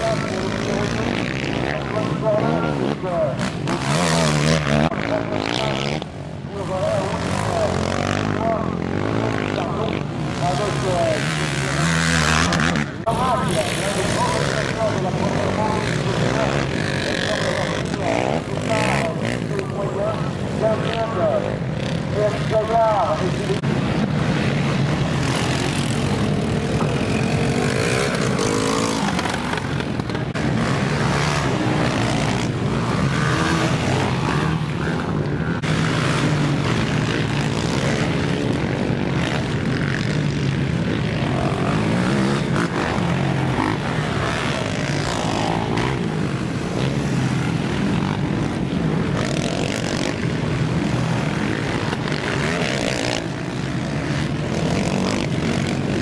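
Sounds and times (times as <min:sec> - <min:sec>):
quad engines revving: 0:00.0 - 0:56.0.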